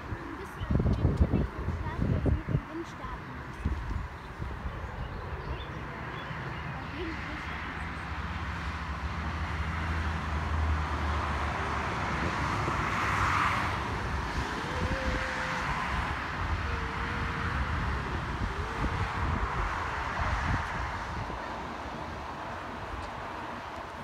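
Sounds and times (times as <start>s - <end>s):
distant jet engine rumble: 0.0s - 24.0s.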